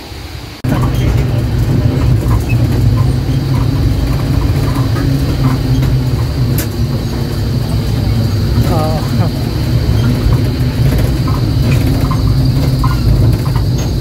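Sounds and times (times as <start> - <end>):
vehicle engine rumbling: 0.4 - 14.0.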